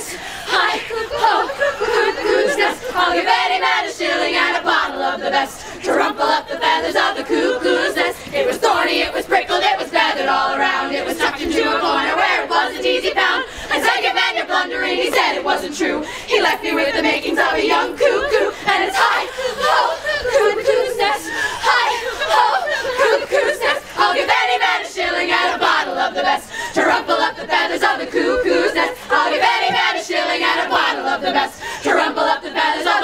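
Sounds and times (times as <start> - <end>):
women's a cappella singing: 0.0 - 33.0.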